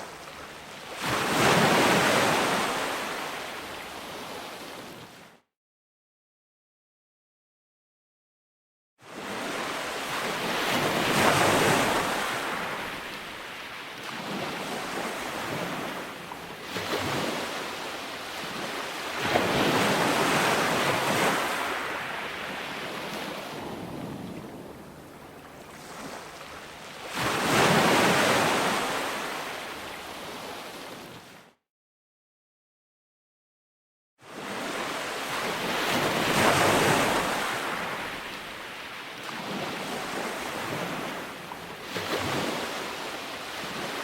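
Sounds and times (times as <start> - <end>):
ocean waves washing onto beach: 0.0 - 5.3, 9.0 - 31.5, 34.3 - 44.0.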